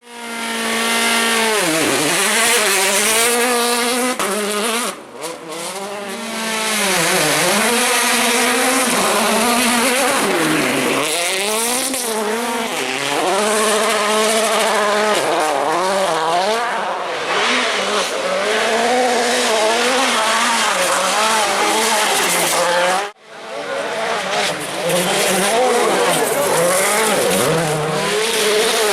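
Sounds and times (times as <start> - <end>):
rally car engines at full throttle: 0.0 - 28.9.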